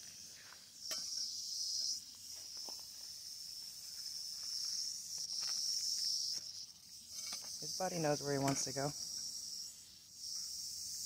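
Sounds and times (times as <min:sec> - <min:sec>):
rattlesnake rattling: 0:00.0 - 0:11.0.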